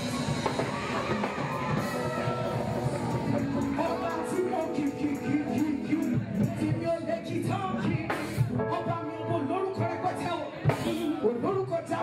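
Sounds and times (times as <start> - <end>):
gospel band music: 0.0 - 12.0
keyboard: 0.0 - 12.0.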